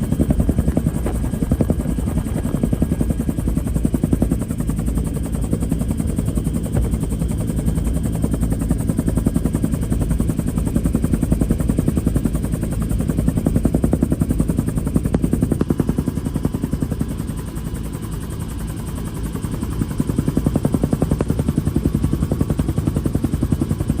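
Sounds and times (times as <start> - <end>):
helicopter rotor chopping: 0.0 - 24.0.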